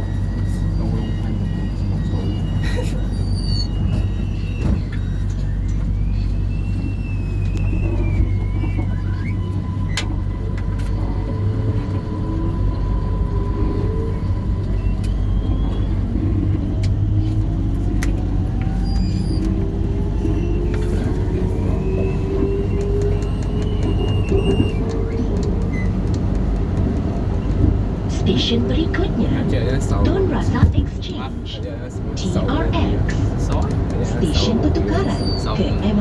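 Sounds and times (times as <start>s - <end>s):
train wheels rumbling: 0.0s - 36.0s.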